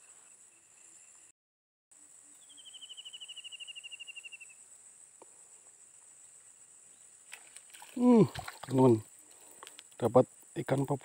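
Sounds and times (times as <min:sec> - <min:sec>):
insect chorus buzzing: 0:00.0 - 0:01.3, 0:02.0 - 0:11.0.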